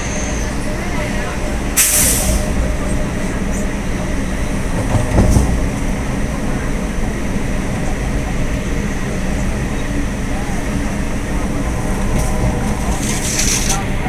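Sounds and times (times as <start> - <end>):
train clatter: 0.0 - 14.0
train wheels rumbling on track: 0.0 - 14.0.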